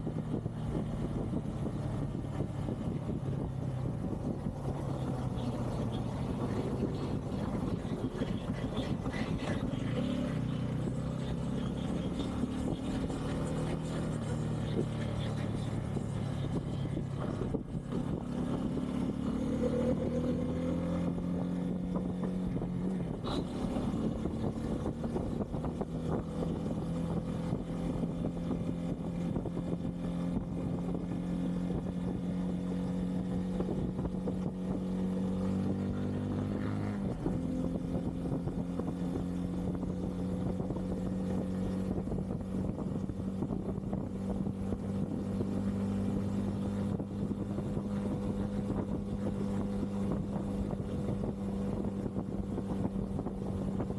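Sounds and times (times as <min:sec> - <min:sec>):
wind noise on microphone: 0:00.0 - 0:09.7, 0:12.6 - 0:53.9
motorcycle engine cruising: 0:00.0 - 0:53.9.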